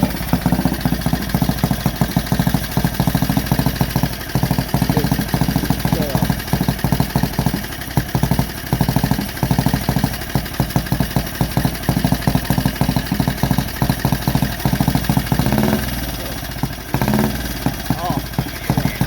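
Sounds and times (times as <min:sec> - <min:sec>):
single-cylinder engine idling unevenly: 0:00.0 - 0:19.0.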